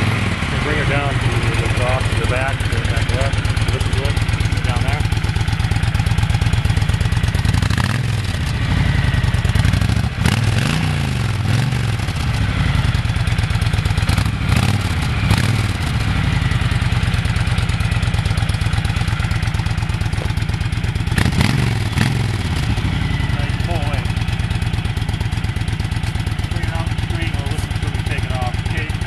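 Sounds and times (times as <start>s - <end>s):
motorcycle engine idling: 0.0s - 29.0s
motorcycle throttle blips: 0.0s - 29.0s.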